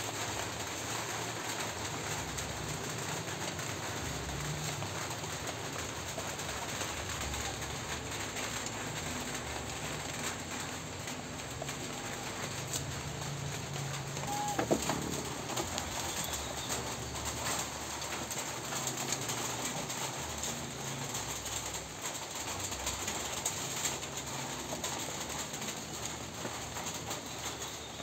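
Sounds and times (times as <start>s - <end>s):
leaves rustling: 1.3s - 28.0s.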